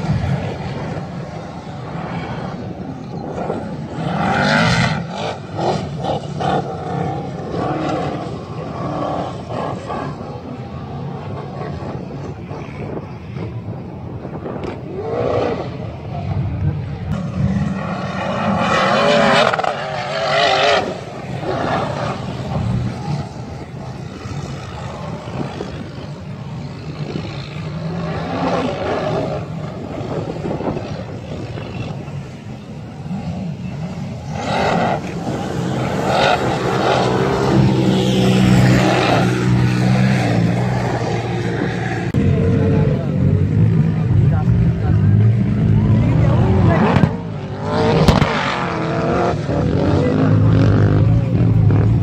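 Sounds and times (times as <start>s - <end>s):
off-road vehicle engines revving: 0.0s - 52.0s.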